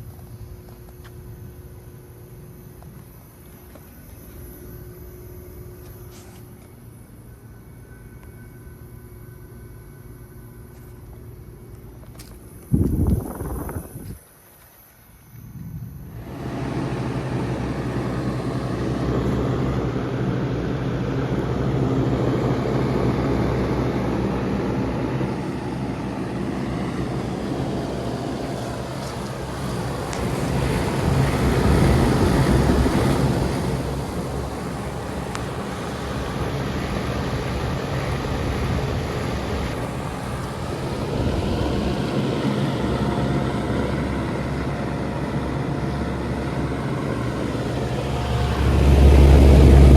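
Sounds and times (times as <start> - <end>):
air conditioner unit humming: 0.0 - 49.9.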